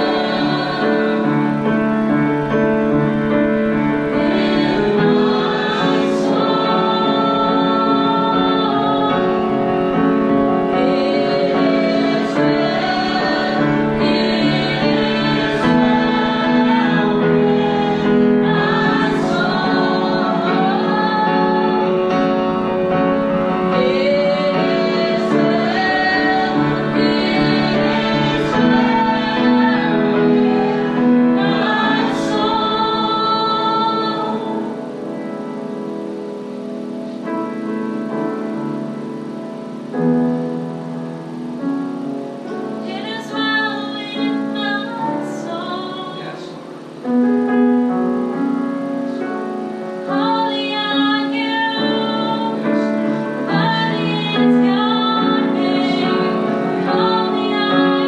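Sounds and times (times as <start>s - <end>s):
voices singing gospel song: 0.0s - 35.7s, 42.4s - 47.1s, 49.0s - 58.0s
instrumental accompaniment: 0.0s - 58.0s.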